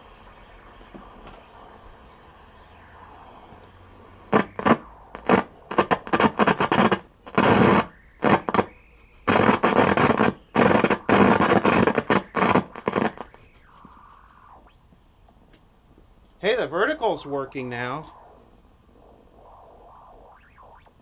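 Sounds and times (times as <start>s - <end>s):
loud tv static hiss: 0.0s - 21.0s.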